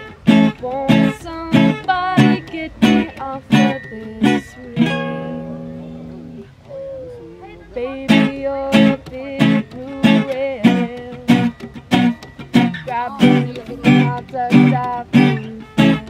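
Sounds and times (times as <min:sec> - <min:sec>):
guitar strumming chords: 0:00.0 - 0:06.6, 0:07.4 - 0:16.0.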